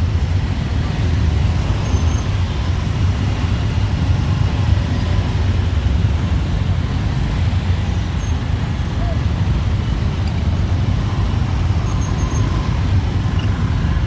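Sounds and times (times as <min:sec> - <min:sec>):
dense city traffic rumble: 0:00.0 - 0:14.0
motorbike and car engines: 0:00.0 - 0:14.0.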